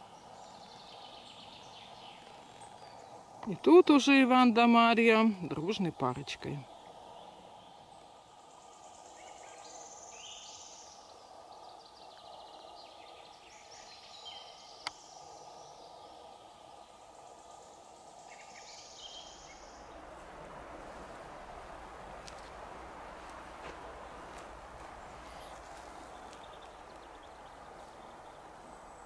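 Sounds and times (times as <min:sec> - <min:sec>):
birds singing: 0:00.0 - 0:29.0
faint background noise: 0:00.0 - 0:29.0.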